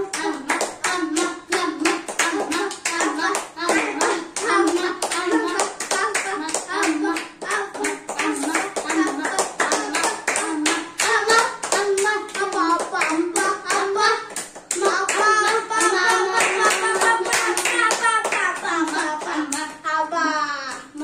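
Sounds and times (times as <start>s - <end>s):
hands clapping in rhythm: 0.0s - 19.9s
voices singing or chanting: 0.0s - 21.0s.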